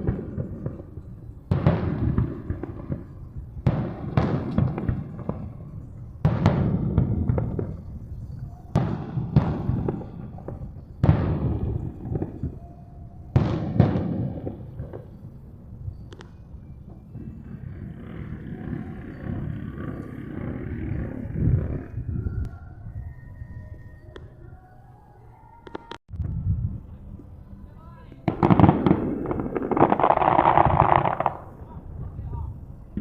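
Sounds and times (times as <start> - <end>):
fireworks crackling: 0.0 - 22.1, 27.6 - 33.0
fireworks booming: 0.0 - 22.4, 28.1 - 33.0.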